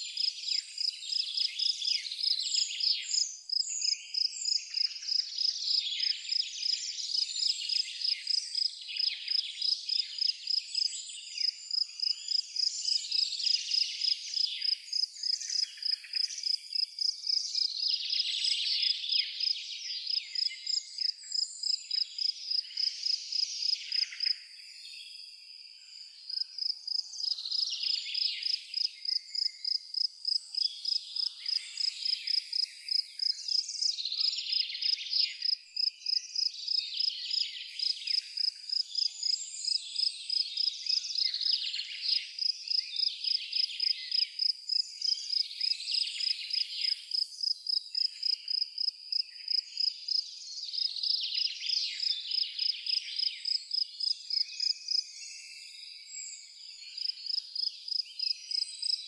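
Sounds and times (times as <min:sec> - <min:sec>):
songbirds singing: 0:00.0 - 0:59.0
cricket chirping: 0:00.1 - 0:19.5, 0:20.1 - 0:59.0.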